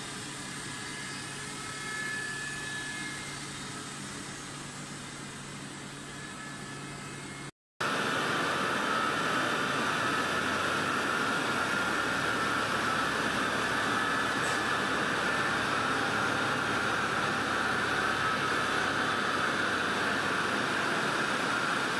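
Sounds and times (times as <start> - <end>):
yarn spinning machine noise: 0.0 - 21.9.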